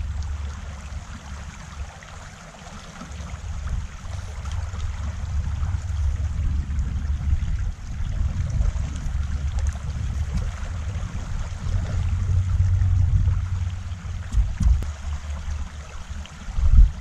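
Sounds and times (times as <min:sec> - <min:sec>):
river current flowing: 0:00.0 - 0:17.0.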